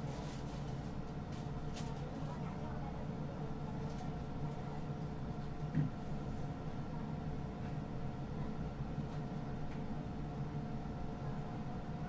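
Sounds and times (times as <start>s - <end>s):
room noise hum and hiss: 0.0s - 12.0s.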